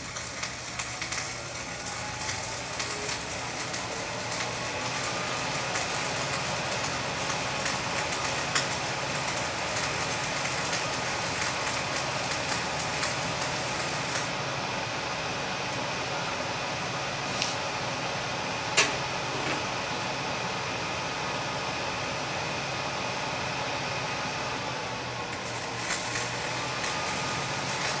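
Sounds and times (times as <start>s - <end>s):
arc welding sizzling hiss: 0.0s - 28.0s.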